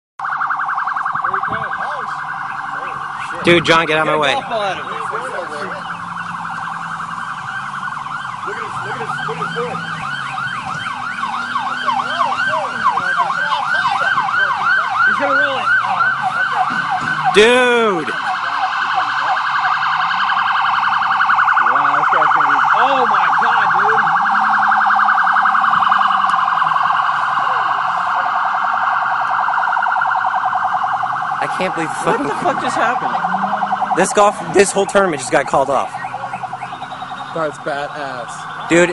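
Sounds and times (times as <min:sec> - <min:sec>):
police siren yelping: 0:00.2 - 0:38.9.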